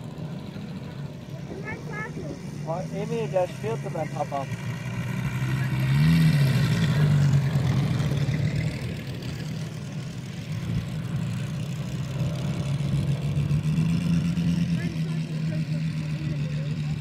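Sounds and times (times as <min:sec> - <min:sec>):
model plane engines droning: 0:00.0 - 0:17.0.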